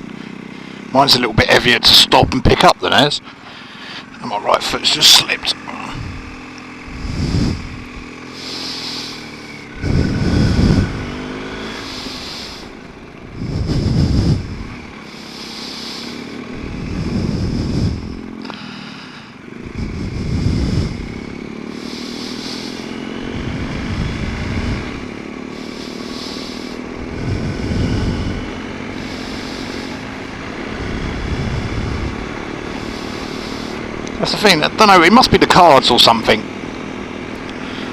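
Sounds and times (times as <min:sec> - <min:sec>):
motorcycle engine rumbling: 0:00.0 - 0:37.9.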